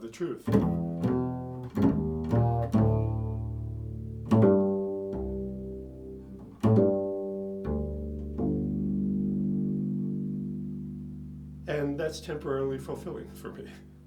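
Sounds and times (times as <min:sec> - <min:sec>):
plucked string instrument notes: 0:00.2 - 0:14.0.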